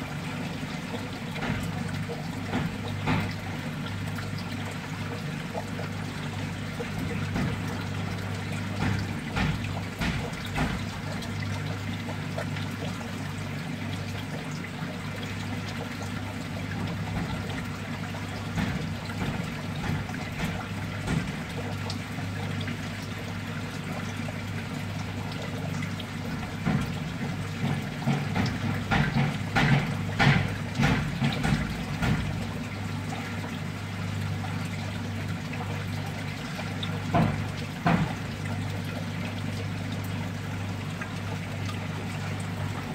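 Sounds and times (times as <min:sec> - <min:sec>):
splashes and clicks: 0:00.0 - 0:42.9
water trickling and pouring: 0:00.0 - 0:42.9.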